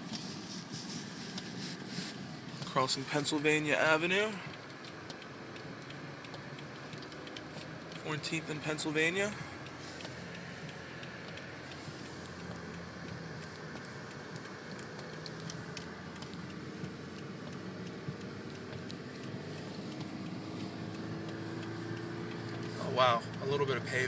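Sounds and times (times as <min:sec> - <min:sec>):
car engine running: 0:00.0 - 0:24.0
tyres rolling on snowy road: 0:00.1 - 0:24.0
faint clicks: 0:02.5 - 0:23.9.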